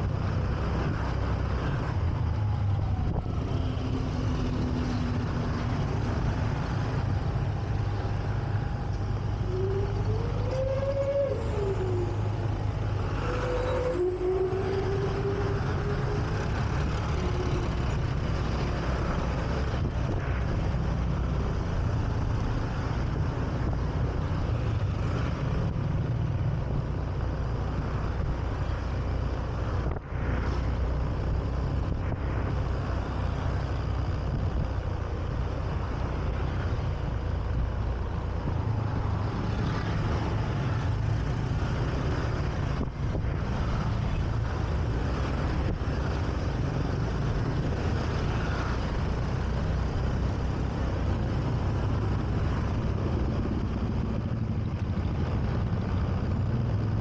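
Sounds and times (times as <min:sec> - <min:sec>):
car and motorbike traffic: 0:00.0 - 0:57.0.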